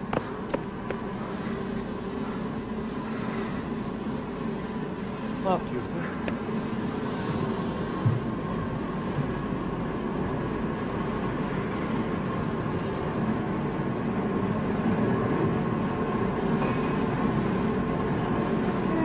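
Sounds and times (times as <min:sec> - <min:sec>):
faint even hum: 0:00.0 - 0:19.0
machinery rumble: 0:00.0 - 0:19.0.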